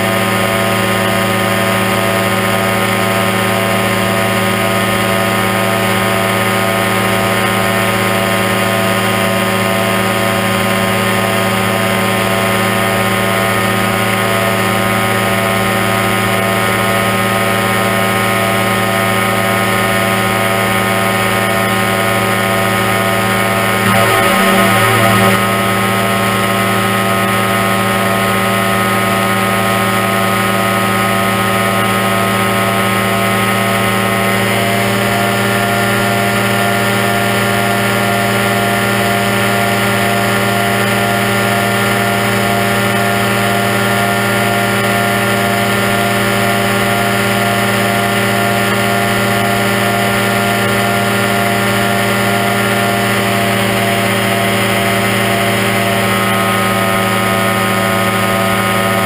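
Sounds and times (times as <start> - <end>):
microlight engine and propeller drone: 0.0 - 59.0.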